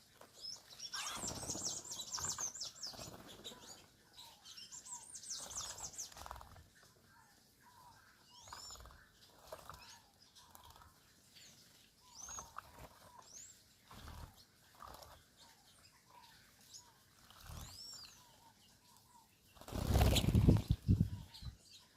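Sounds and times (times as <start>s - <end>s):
wings fluttering and water splashing: 0.0s - 4.0s, 5.3s - 7.0s, 8.4s - 18.8s, 19.4s - 21.2s
small birds chirping: 0.0s - 21.9s.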